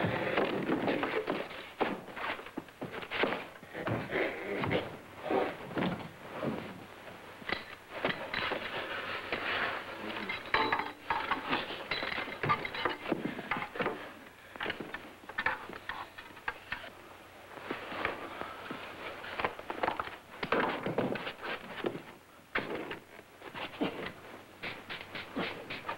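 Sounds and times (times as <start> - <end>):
scuffling knocks and thumps: 0.0 - 16.4, 17.6 - 25.9.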